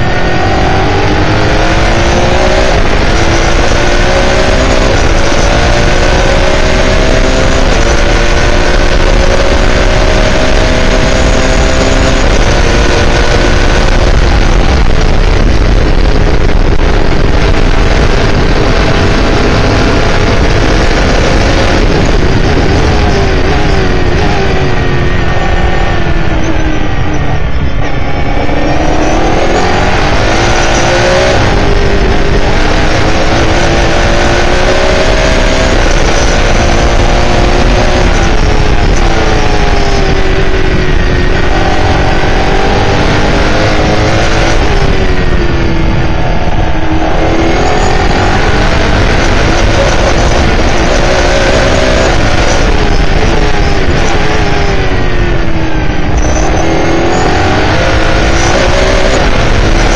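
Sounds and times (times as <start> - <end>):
racing car engine accelerating: 0.0 - 59.9.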